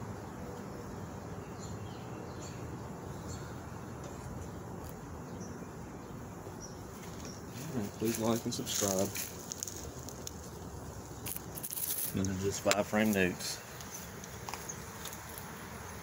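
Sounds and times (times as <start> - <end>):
bees humming: 0.0 - 16.0.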